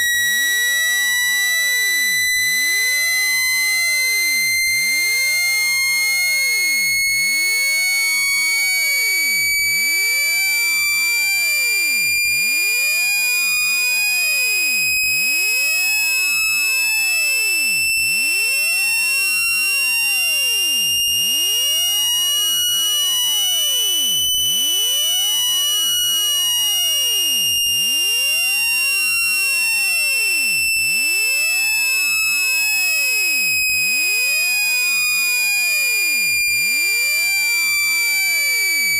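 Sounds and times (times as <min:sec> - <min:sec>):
shrill buzzy electronic tone: 0:00.0 - 0:38.9.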